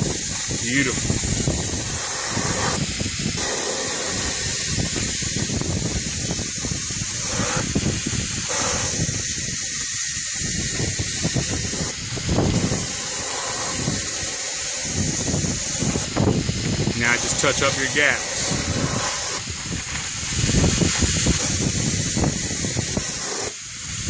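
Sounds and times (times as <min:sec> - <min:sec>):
spray hissing: 0:00.0 - 0:24.0.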